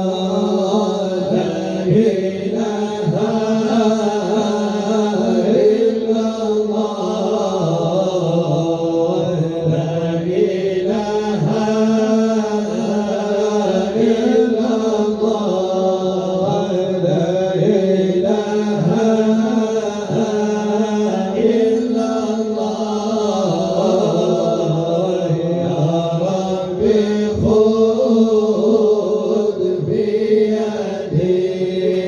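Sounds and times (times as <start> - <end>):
devotional chanting voices: 0.0 - 32.0.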